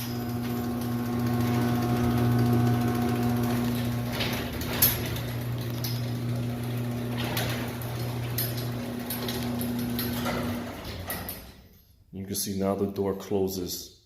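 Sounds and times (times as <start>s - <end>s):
garage door opener motor humming: 0.0s - 11.6s
garage door clacking: 0.0s - 12.0s.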